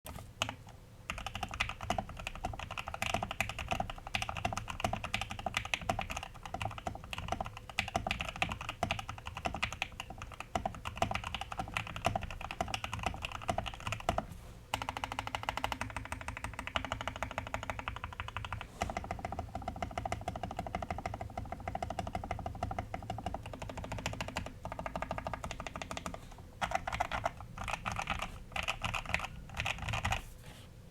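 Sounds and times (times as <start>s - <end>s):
fast mechanical keyboard typing: 0.1s - 30.3s.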